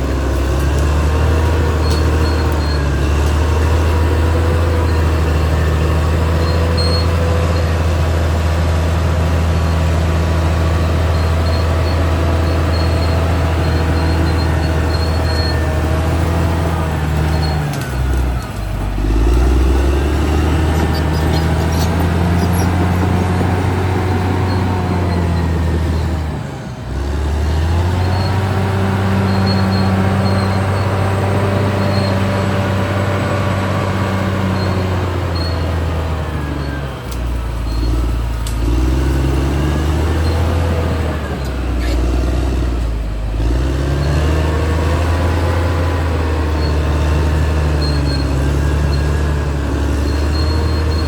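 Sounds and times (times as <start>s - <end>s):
bulldozer diesel engine under load: 0.0s - 51.0s.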